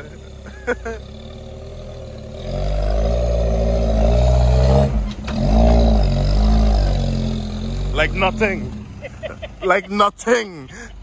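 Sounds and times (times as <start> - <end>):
off-road engine revving: 0.0 - 11.0.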